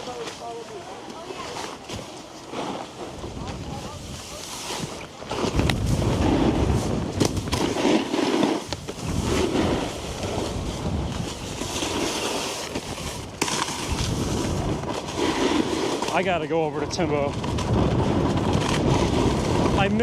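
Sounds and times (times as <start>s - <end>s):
snowboard scraping over snow: 0.0s - 20.0s
wind buffeting microphone: 3.0s - 20.0s.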